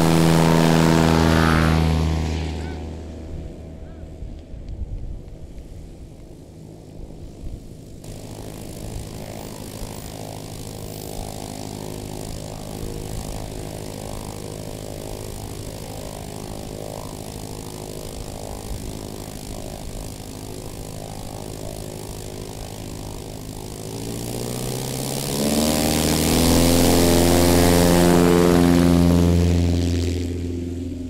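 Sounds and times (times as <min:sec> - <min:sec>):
plane engine and propeller running: 0:00.0 - 0:31.0
plane touching down: 0:00.0 - 0:31.0.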